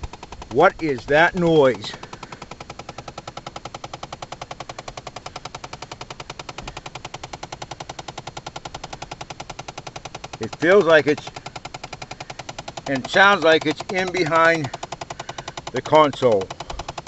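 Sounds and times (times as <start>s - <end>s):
rapid clicking inside car: 0.0s - 17.0s.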